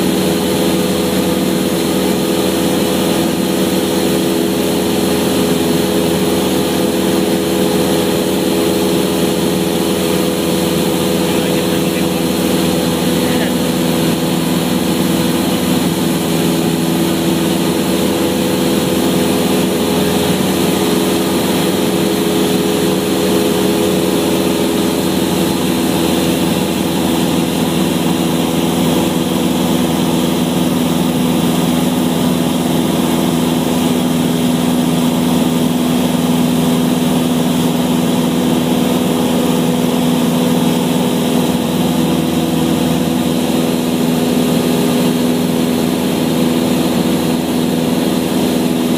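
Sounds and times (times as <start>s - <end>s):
propeller plane engine drone: 0.0s - 48.9s.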